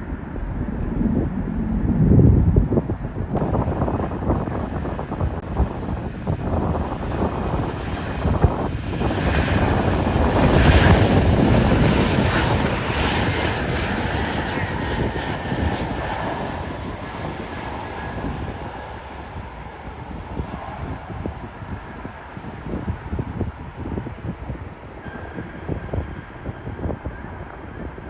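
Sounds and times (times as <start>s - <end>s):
airliner engine passing: 0.0s - 28.0s.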